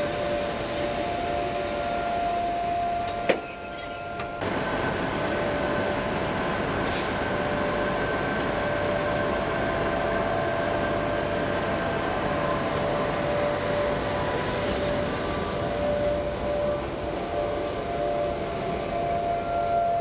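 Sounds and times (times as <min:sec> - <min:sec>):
electric locomotive fans whirring: 0:00.0 - 0:03.1, 0:04.4 - 0:20.0.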